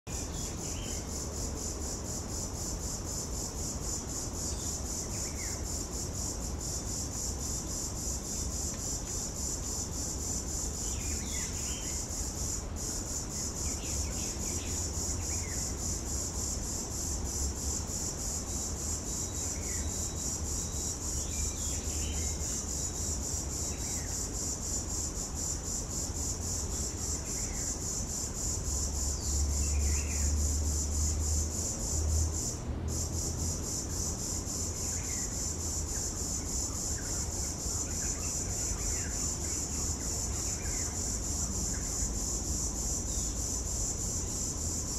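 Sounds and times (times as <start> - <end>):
cicada buzzing: 0.1 - 44.9.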